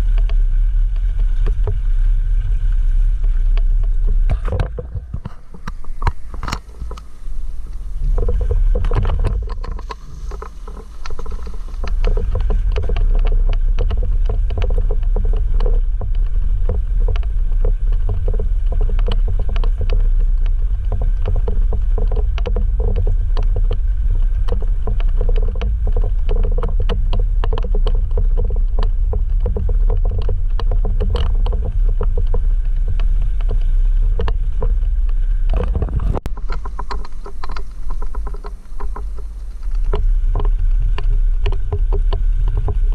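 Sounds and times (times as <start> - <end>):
vehicle engine rumble: 0.0 - 42.9.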